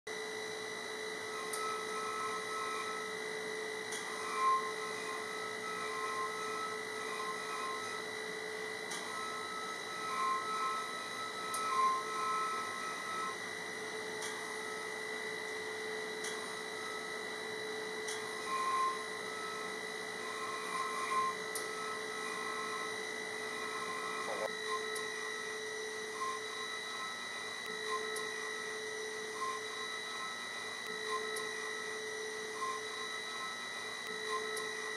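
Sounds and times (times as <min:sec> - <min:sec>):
mill spindle whining: 0:00.1 - 0:34.9.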